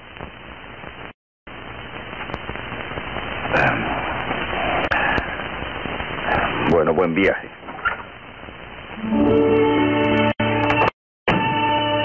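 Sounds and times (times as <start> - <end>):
old tv soundtrack hiss: 0.0 - 12.0.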